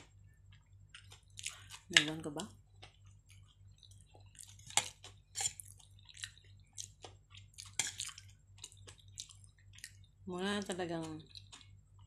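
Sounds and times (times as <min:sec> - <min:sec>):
wet chewing and mouth smacks: 0:00.5 - 0:02.1, 0:02.7 - 0:10.2, 0:11.1 - 0:12.0.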